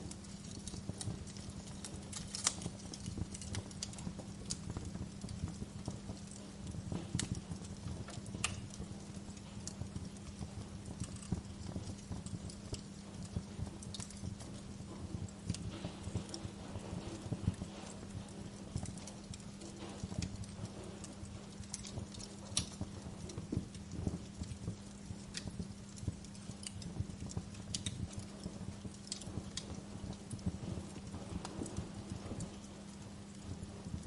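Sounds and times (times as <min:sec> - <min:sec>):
low steady hum: 0:00.0 - 0:34.0
wood fire crackling and popping: 0:00.0 - 0:34.0.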